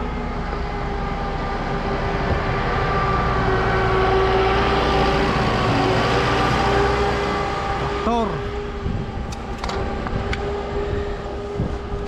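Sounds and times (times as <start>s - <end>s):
vehicle engine whining: 0.0s - 12.0s.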